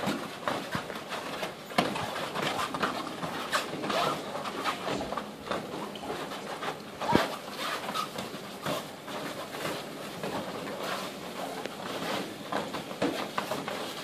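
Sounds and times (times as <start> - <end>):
feet scuffing on foam mats: 0.0 - 14.0.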